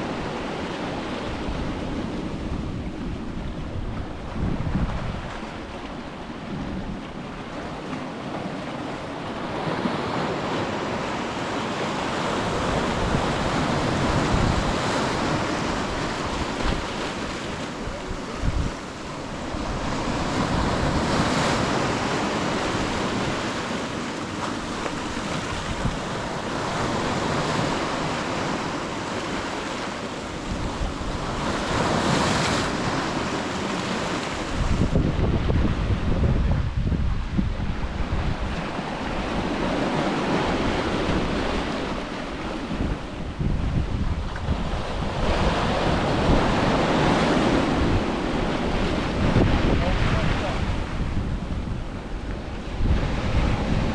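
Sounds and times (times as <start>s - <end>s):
wind buffeting microphone: 0.0s - 8.6s, 12.0s - 23.7s, 24.4s - 28.2s, 30.3s - 53.9s
ocean waves washing onto beach: 0.0s - 53.9s.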